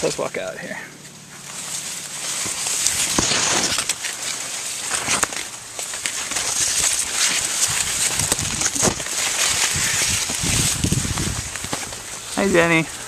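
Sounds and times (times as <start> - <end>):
dry corn leaves rustling: 0.0 - 13.0
steady high hiss: 0.0 - 13.0
footfalls: 1.5 - 12.1.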